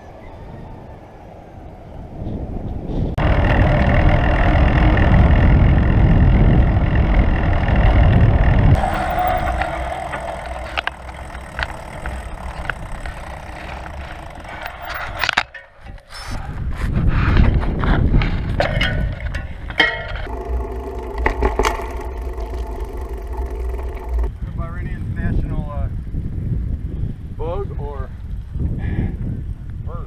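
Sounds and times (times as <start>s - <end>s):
wind and road rumble: 0.0s - 30.0s.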